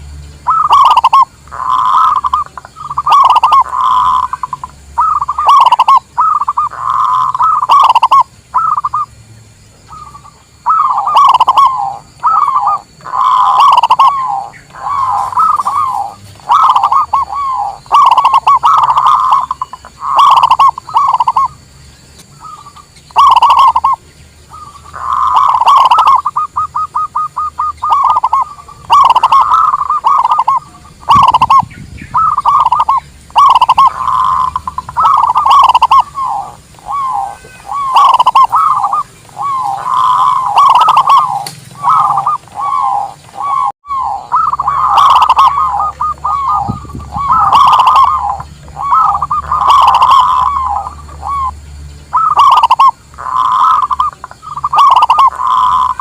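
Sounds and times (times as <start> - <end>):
doves cooing: 0.4 - 56.0.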